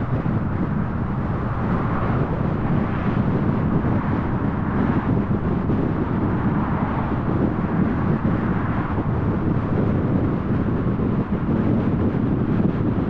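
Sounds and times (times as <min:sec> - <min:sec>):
car engine hum: 0:00.0 - 0:13.0
road and tyre noise: 0:00.0 - 0:13.0
wind noise: 0:00.0 - 0:13.0.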